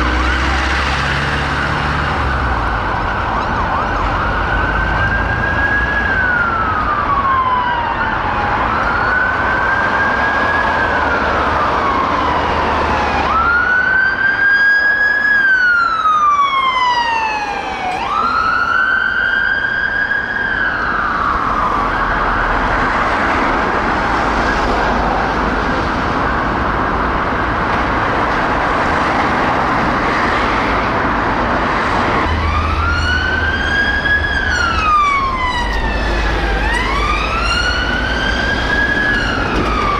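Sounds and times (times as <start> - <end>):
siren wailing: 0.0 - 27.6, 31.7 - 39.9
low rumble of traffic: 0.0 - 39.9.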